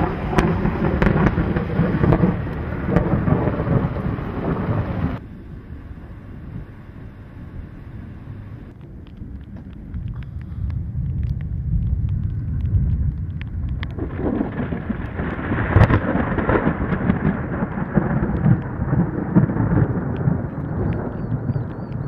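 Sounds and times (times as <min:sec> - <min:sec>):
thunder rumbling and cracking: 0:00.0 - 0:22.0.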